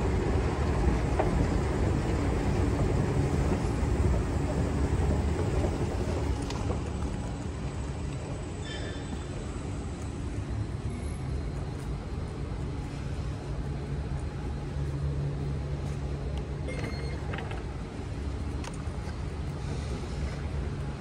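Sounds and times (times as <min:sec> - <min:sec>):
machinery and ventilation hum: 0:00.0 - 0:21.0.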